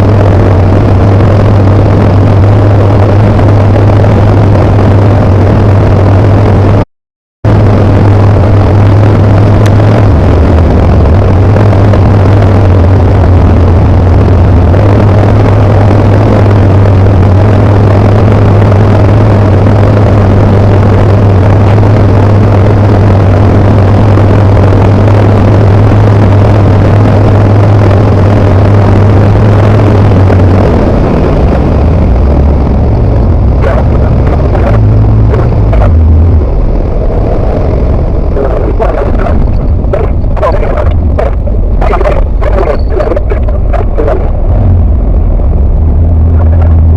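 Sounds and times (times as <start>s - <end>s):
aircraft engine and propeller drone: 0.0s - 6.8s, 7.4s - 46.9s.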